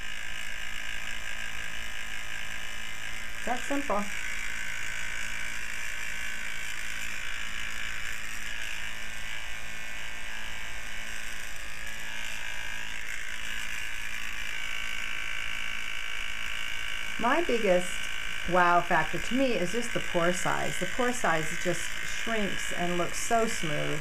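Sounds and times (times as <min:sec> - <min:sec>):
electric fan whirring: 0:00.0 - 0:24.0.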